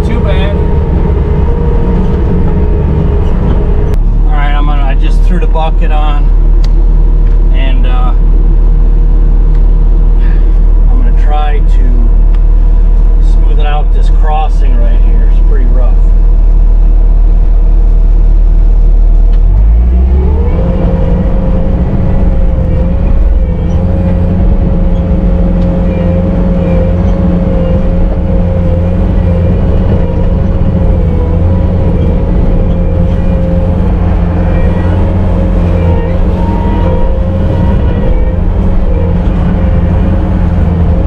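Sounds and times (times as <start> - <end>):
diesel loader engine running: 0.0 - 41.0
steady whine: 0.0 - 41.0.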